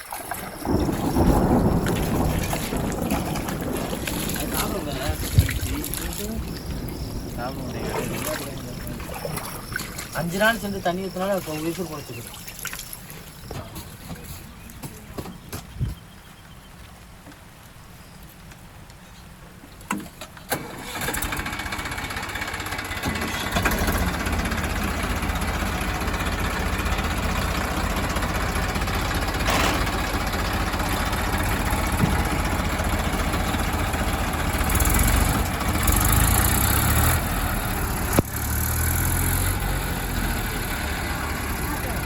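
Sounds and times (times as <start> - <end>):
diesel engine starting and running: 0.0 - 12.2, 20.2 - 42.0.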